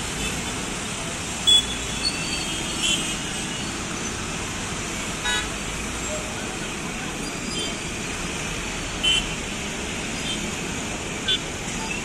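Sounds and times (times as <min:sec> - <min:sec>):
street traffic engines humming: 0:00.0 - 0:12.0.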